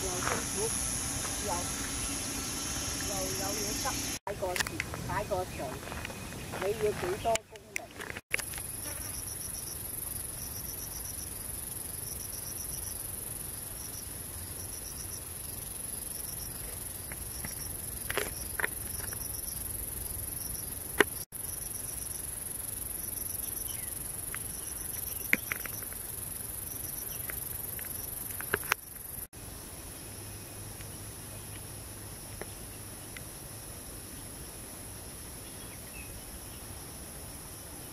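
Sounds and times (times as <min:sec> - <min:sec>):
insects shrilling and chirping: 0:00.0 - 0:37.9.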